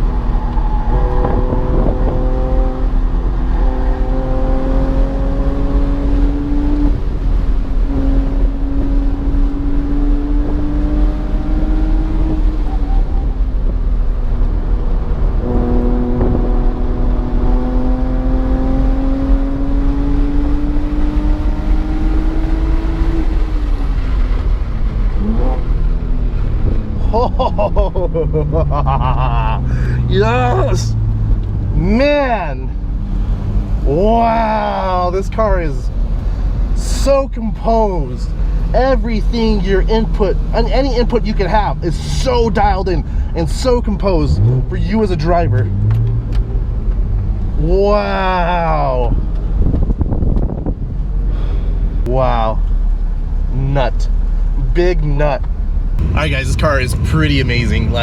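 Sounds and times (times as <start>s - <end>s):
car engine accelerating hard: 0.0s - 31.9s, 39.4s - 52.0s, 56.0s - 58.0s
road and tyre rumble: 0.0s - 58.0s.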